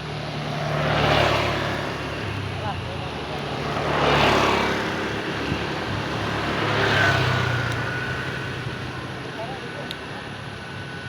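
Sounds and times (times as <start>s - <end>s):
passing vehicles: 0.0s - 11.0s.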